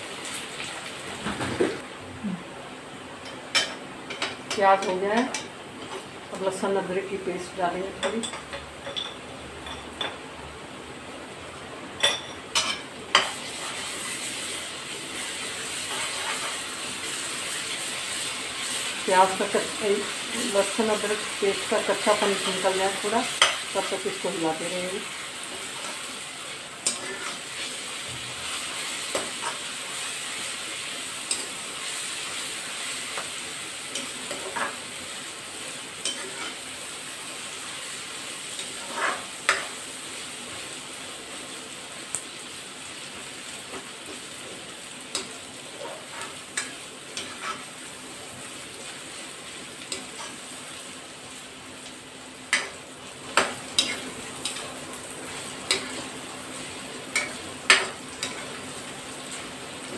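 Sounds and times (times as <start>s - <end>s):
onions sizzling in hot oil: 0.0s - 2.0s, 2.6s - 59.9s.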